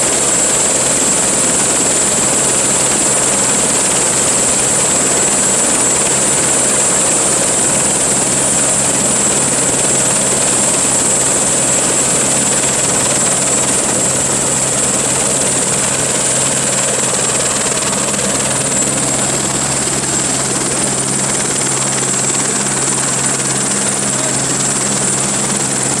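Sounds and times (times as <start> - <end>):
helicopter rotor hum: 0.0 - 26.0
helicopter turbine whine: 0.0 - 26.0.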